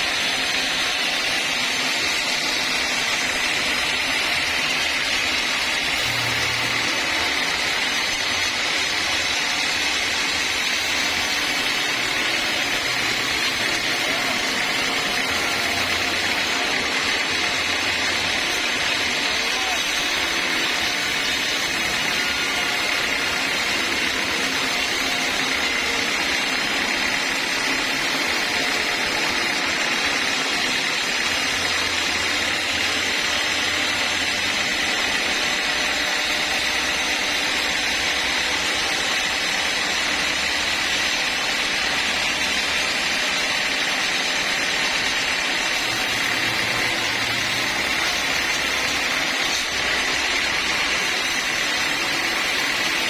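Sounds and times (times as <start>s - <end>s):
sawmill saw cutting log: 0.0s - 53.0s.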